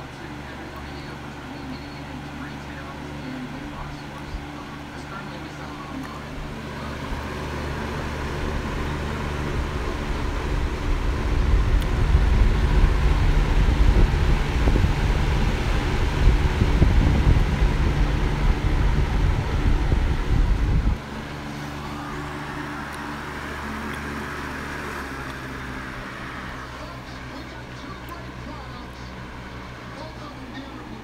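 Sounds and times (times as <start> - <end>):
box fan humming: 0.0 - 31.0
airflow buffeting microphone: 2.3 - 31.0.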